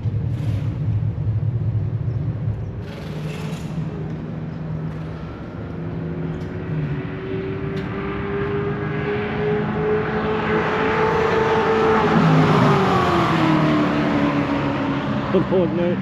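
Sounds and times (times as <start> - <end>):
car engine accelerating: 0.0 - 16.0
race car engines rumbling: 0.0 - 16.0.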